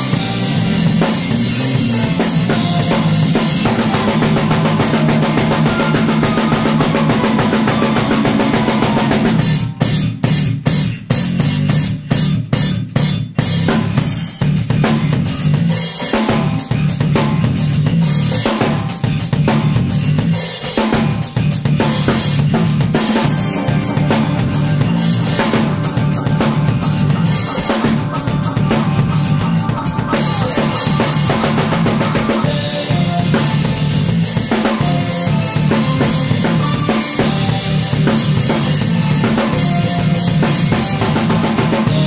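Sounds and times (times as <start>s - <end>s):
drum kit playing: 0.0s - 42.0s
electric bass line: 0.0s - 42.0s.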